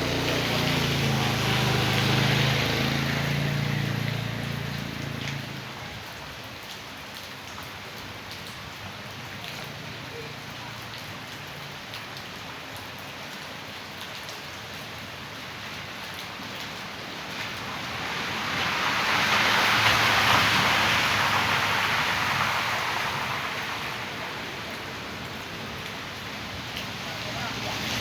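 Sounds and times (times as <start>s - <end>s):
rain and rushing water runoff: 0.0s - 28.0s.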